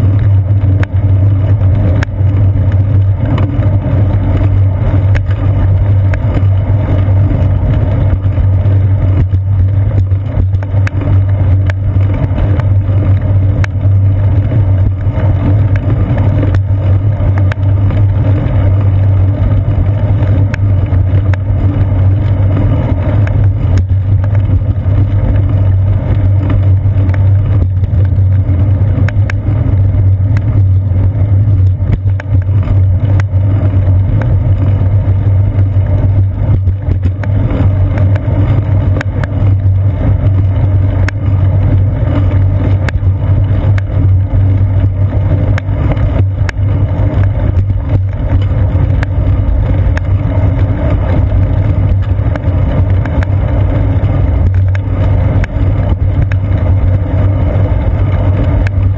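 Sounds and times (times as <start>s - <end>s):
wind and road rumble: 0.0s - 58.9s.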